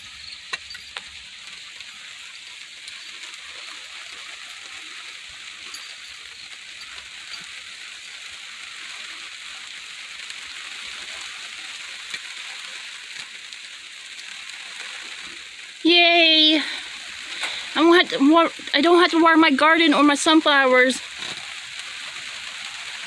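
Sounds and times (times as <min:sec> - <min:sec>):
rain falling: 0:00.0 - 0:23.0
raindrop ticks: 0:00.1 - 0:23.0.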